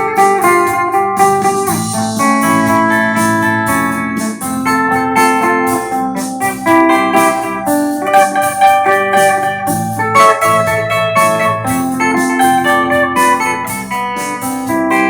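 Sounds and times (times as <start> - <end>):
clean electric guitar chords: 0.0 - 15.0.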